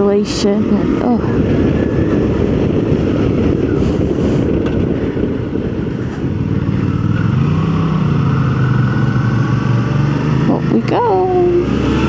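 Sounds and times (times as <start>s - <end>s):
motorcycle engine running: 0.0s - 12.0s
wind rush: 0.0s - 12.0s.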